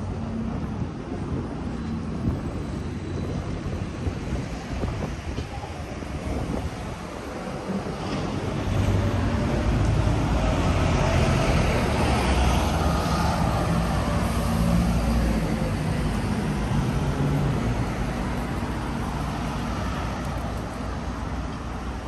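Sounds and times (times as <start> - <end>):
bus driving past: 0.0 - 22.0
traffic noise: 0.0 - 22.0.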